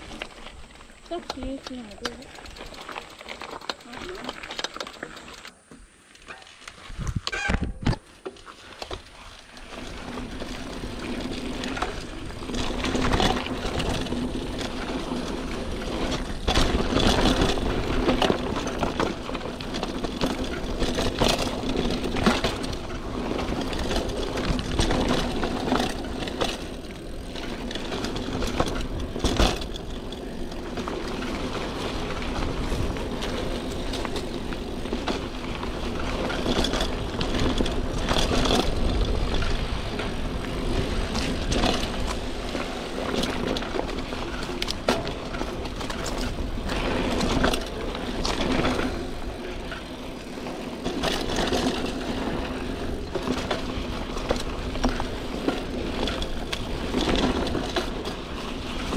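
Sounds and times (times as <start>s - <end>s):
bike rattling over bumps: 0.0s - 58.9s
bike tyres rolling over dirt: 0.0s - 58.9s.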